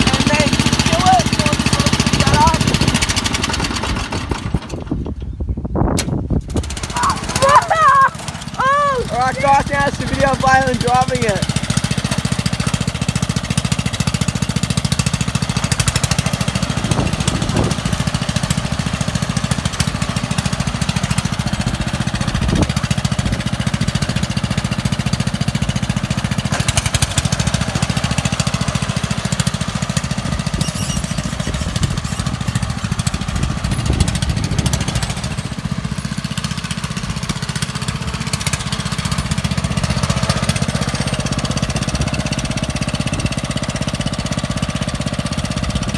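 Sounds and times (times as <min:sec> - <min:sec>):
lawn mower engine exhaust pulses: 0:00.0 - 0:45.9.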